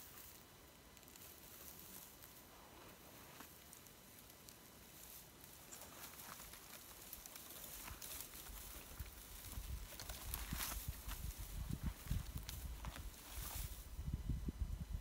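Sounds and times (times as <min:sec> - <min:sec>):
faint clicks and rustles: 0:00.0 - 0:13.9.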